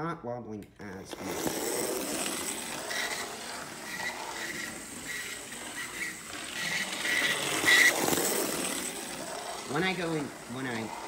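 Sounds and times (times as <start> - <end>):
model locomotive motor rattling: 1.0 - 11.0.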